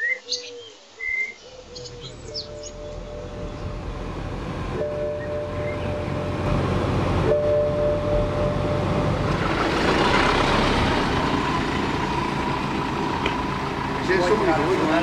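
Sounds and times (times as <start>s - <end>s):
car engine and road noise: 1.6s - 15.0s.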